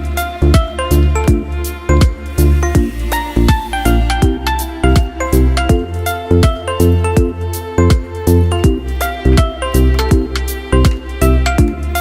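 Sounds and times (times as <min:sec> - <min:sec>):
deep bass line: 0:00.0 - 0:12.0.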